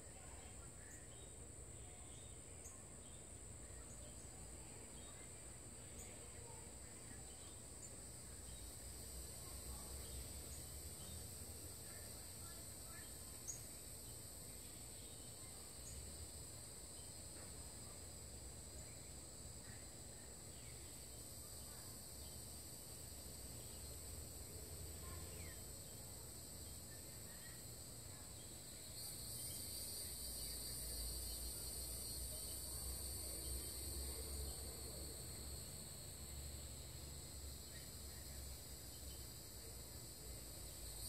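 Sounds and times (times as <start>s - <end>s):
high-pitched insect chorus: 0.1s - 41.0s.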